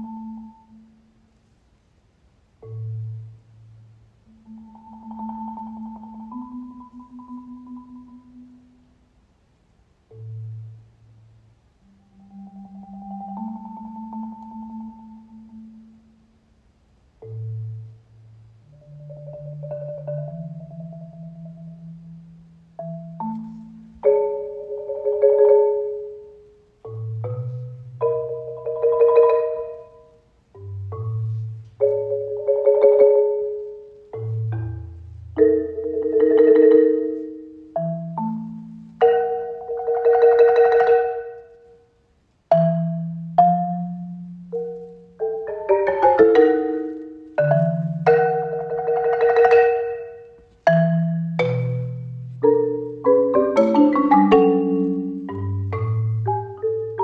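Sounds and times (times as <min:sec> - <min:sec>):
marimba chords: 0:00.0 - 0:01.2, 0:02.6 - 0:09.0, 0:10.1 - 0:16.4, 0:17.2 - 0:57.0.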